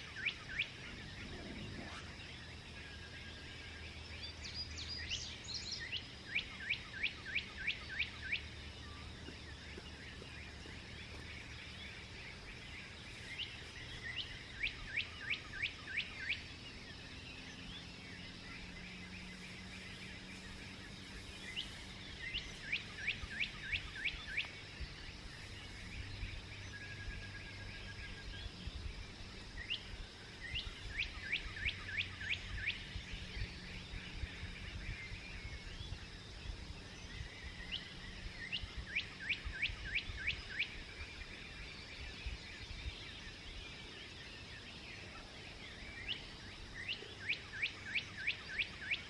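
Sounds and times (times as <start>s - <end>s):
bird singing: 0.0s - 49.0s
steady background hiss: 0.0s - 49.0s.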